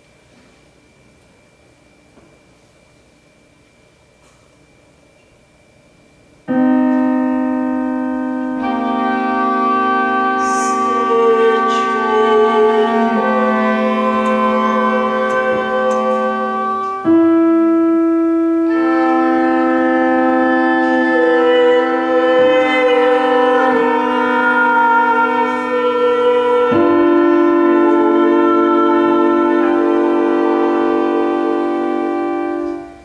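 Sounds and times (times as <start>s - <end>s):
electronic keyboard drone: 6.4s - 33.0s
bowed cello drone: 6.5s - 33.0s.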